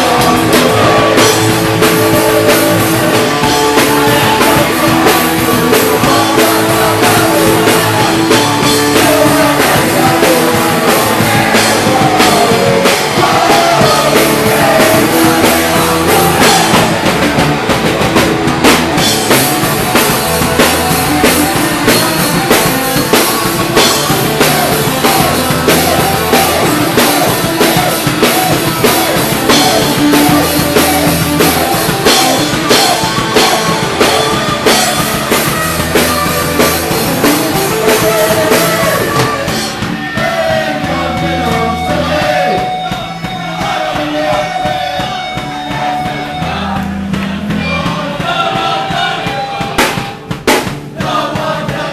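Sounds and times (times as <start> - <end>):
fast drum beat: 0.0 - 51.9
punk rock band playing: 0.0 - 51.9.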